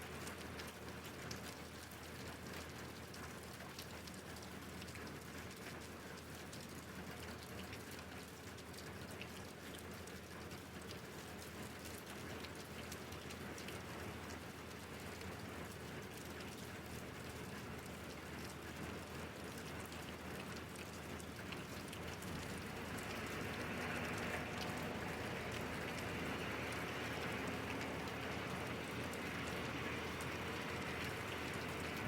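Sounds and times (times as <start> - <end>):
rain on a hard surface: 0.0 - 32.0.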